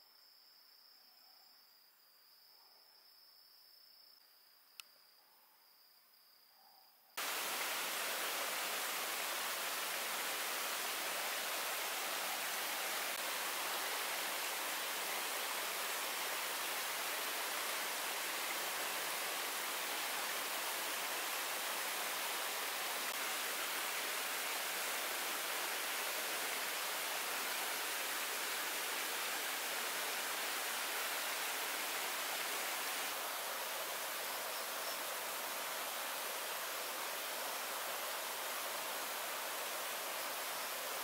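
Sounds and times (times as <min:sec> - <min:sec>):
stream water over rocks: 0:07.2 - 0:41.0.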